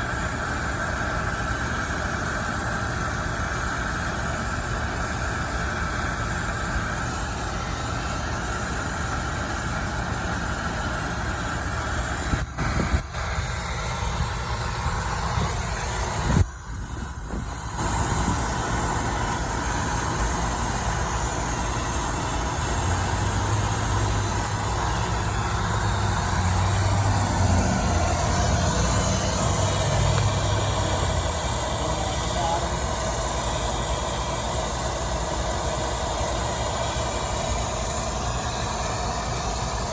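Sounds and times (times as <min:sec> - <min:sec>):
brazing torch hissing: 0:05.9 - 0:39.9.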